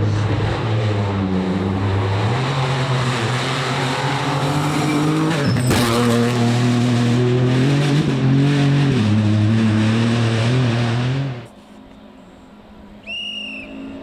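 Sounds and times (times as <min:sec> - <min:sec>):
rally car engine running hard: 0:00.0 - 0:11.5.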